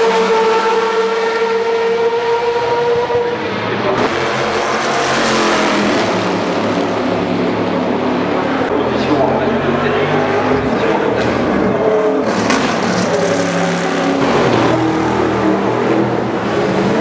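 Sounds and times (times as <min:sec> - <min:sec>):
race cars passing at full throttle: 0:00.0 - 0:17.0.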